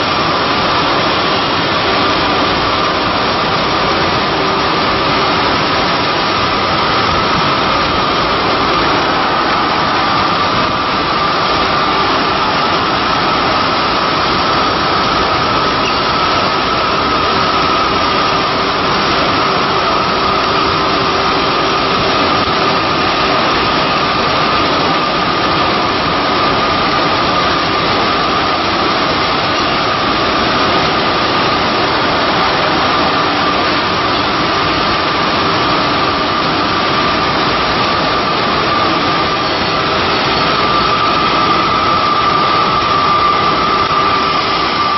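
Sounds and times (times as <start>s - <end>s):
cnc router rushing noise: 0.0s - 44.9s
high machine whine: 0.0s - 44.9s.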